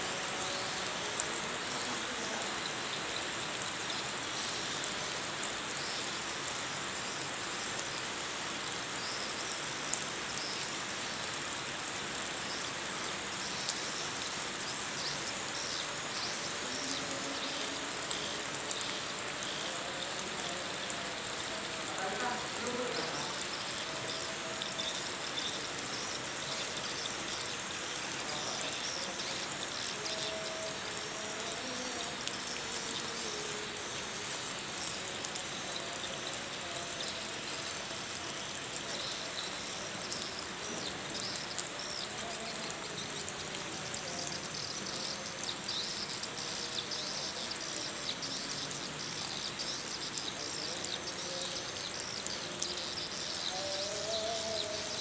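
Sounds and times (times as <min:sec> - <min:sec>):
outdoor hiss: 0:00.0 - 0:55.0.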